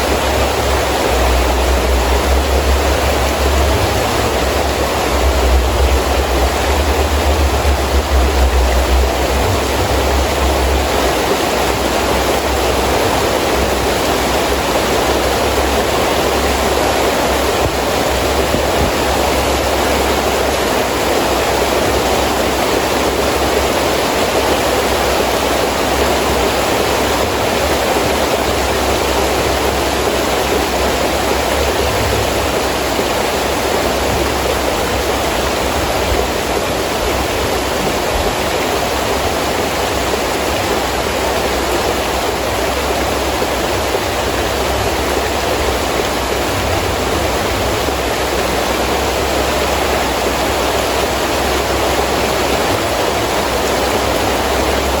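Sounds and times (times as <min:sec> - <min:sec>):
low rumble: 0:00.0 - 0:23.7, 0:26.0 - 0:52.8
heavy rain: 0:00.0 - 0:55.0
wind: 0:00.0 - 0:55.0.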